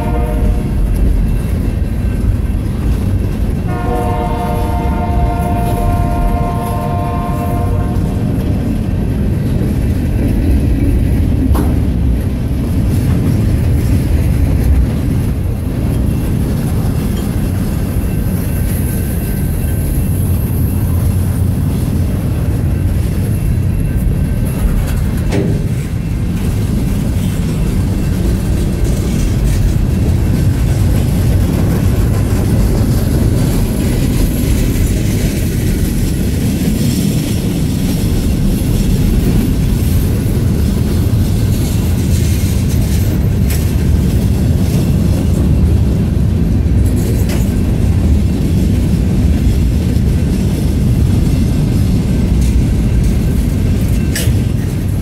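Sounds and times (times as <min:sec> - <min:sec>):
train wheels rumbling on rails: 0:00.0 - 0:55.0
wheels clicking over rail joints: 0:00.1 - 0:55.0.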